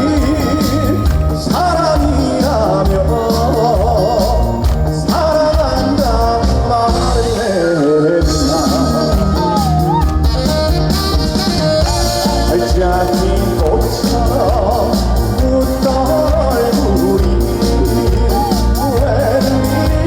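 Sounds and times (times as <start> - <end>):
live band playing: 0.0 - 20.0
steady drum beat: 0.0 - 20.0.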